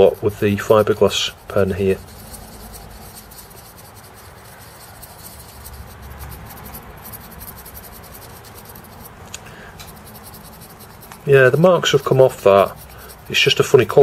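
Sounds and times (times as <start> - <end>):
pen scratching on metal: 0.0 - 14.0.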